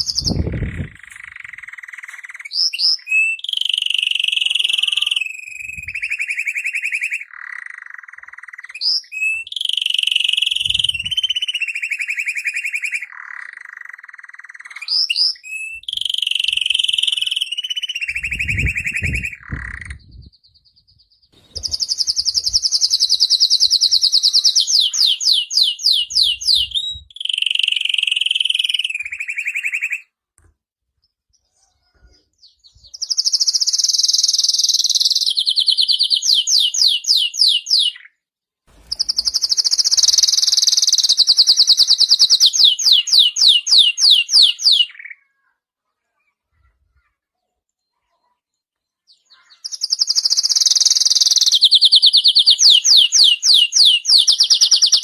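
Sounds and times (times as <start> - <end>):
canary singing trills: 0.0 - 30.1, 31.4 - 38.2, 38.8 - 45.5, 46.5 - 55.0.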